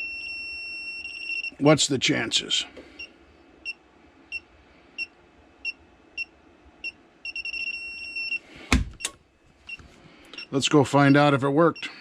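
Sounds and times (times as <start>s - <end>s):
breaker finder beeping: 0.0s - 1.8s, 3.0s - 12.0s.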